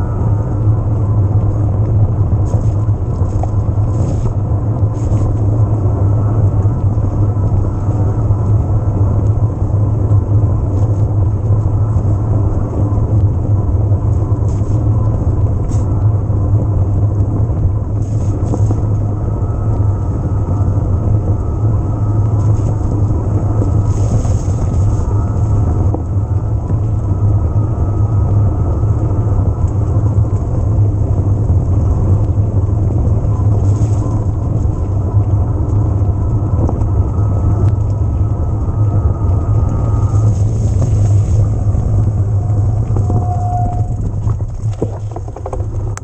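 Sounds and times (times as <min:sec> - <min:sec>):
bike riding noise rumble: 0:00.0 - 0:46.0.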